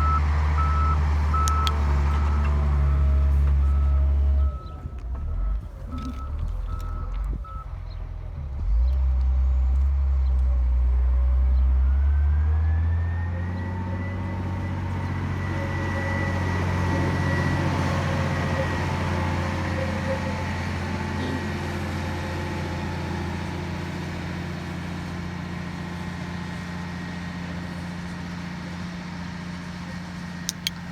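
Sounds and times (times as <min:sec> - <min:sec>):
truck diesel engine rumbling: 0:00.0 - 0:30.9.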